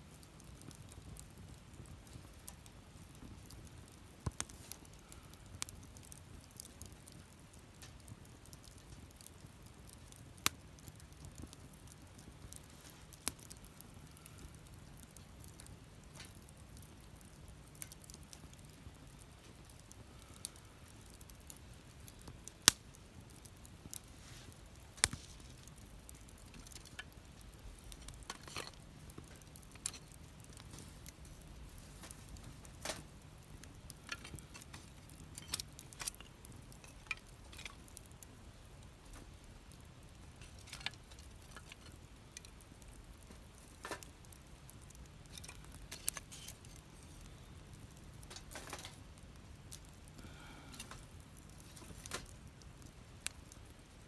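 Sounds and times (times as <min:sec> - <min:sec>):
loud fire snaps: 0:00.0 - 0:54.0
wood fire crackling: 0:00.0 - 0:54.0.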